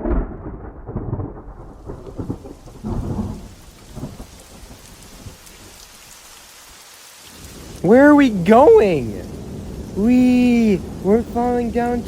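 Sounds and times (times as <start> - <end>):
thunder rumbling: 0.0 - 6.0, 7.4 - 12.0
rain hissing: 1.4 - 12.0.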